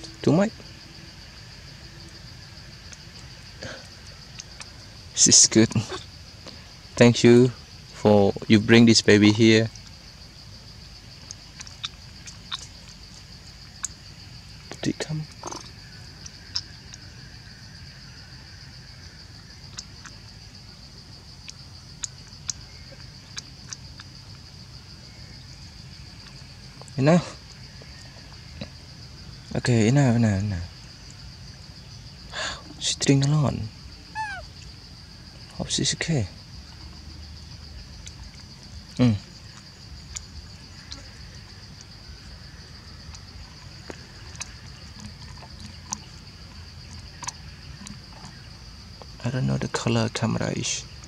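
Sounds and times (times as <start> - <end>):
insect drone: 0.0 - 51.0.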